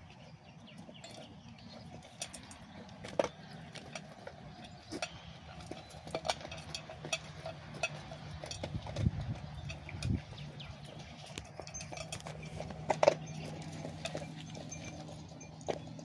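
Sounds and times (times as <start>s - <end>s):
dog chewing food: 0.1s - 16.0s
metal bowl clinking: 1.0s - 16.0s.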